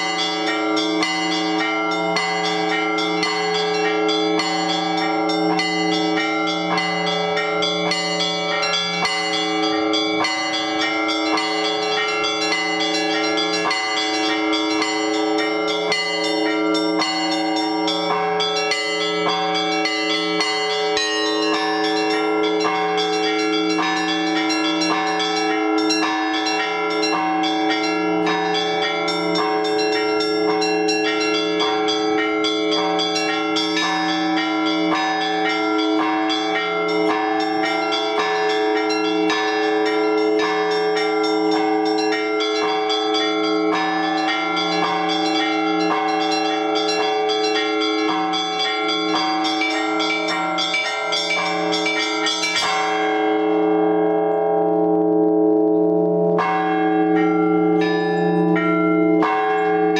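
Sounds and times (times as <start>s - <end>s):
small bells chiming: 0.0s - 54.4s, 56.4s - 59.9s
large bells humming: 0.0s - 59.9s.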